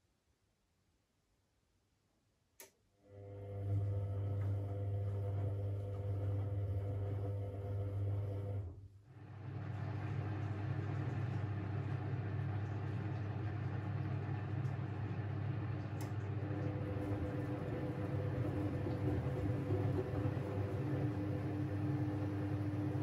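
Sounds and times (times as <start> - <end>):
washing machine motor hum: 3.0 - 23.0
washing drum wash sound: 3.2 - 23.0.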